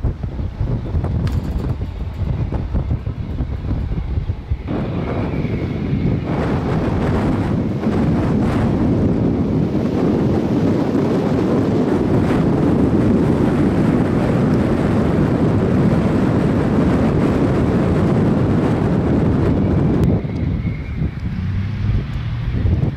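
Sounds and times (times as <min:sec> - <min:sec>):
storm wind buffeting microphone: 0:00.0 - 0:22.9.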